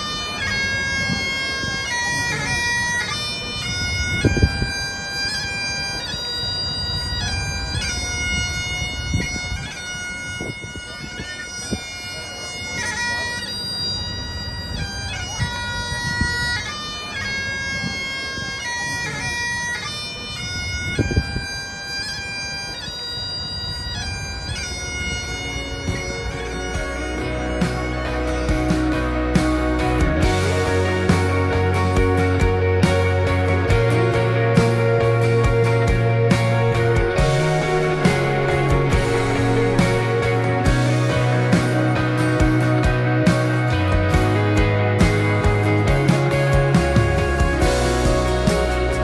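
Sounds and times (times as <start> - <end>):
bagpipes playing: 0.0 - 49.0.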